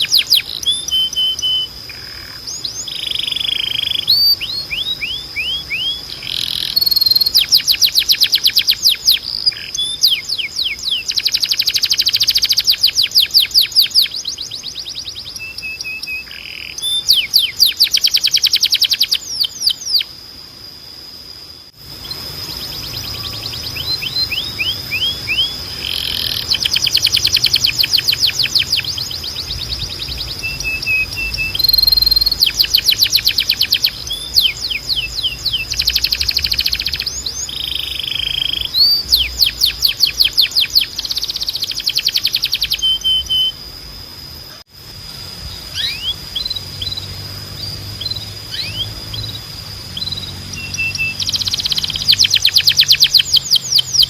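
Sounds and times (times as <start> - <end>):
canary singing trills: 0.0 - 21.2, 21.8 - 43.7, 44.4 - 54.0.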